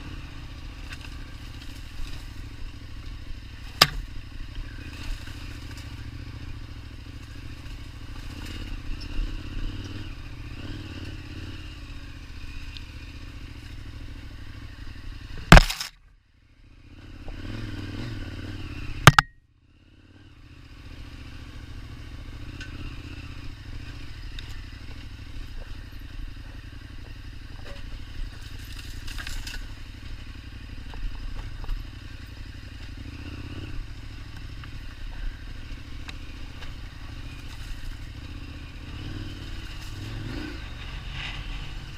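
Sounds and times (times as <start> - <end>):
motorcycle engine at low speed: 0.0 - 41.9.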